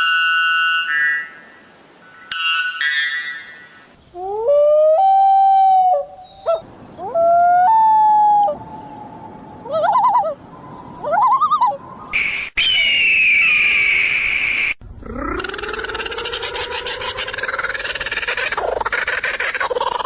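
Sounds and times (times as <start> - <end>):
rising bird calls: 2.0 - 20.0.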